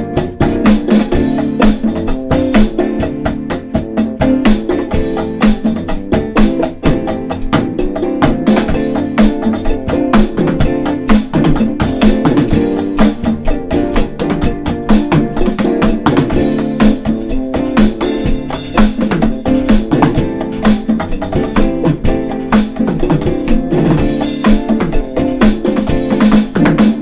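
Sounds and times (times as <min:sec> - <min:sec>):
electronic drum kit playing: 0:00.0 - 0:27.0.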